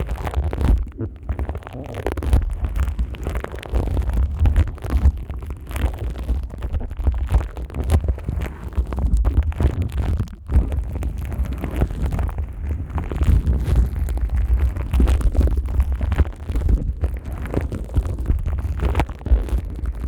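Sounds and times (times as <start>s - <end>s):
plastic wrap crinkling: 0.0s - 20.0s.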